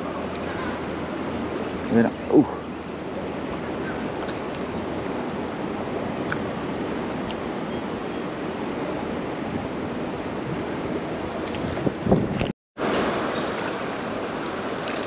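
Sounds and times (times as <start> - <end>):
river current rushing: 0.0 - 12.2, 12.8 - 15.0.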